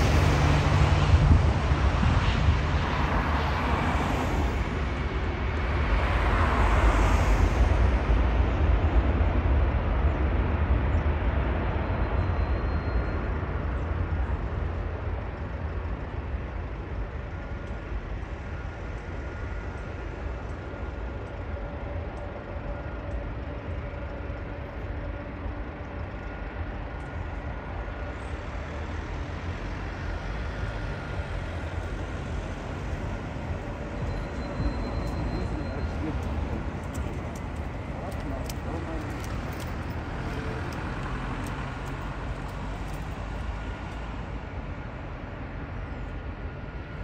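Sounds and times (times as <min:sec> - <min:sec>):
jet engine with faint whine: 0:00.0 - 0:47.0
wind rumbling on microphone: 0:00.0 - 0:47.0.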